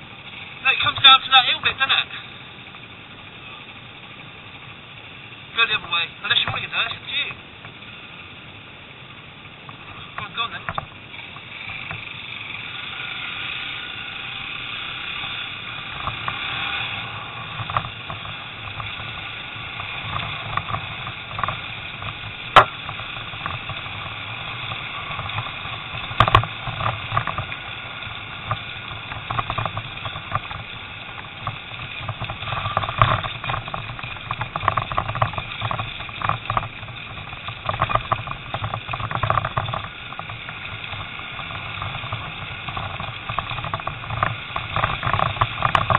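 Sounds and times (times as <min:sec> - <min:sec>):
motorcycle engine running: 0:00.0 - 0:45.9
rattles and knocks from bumps: 0:05.6 - 0:07.8, 0:09.6 - 0:12.3, 0:13.6 - 0:45.9.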